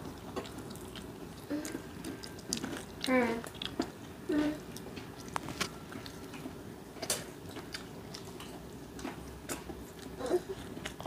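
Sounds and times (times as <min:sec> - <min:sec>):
fried chicken being chewed: 0:00.0 - 0:11.0.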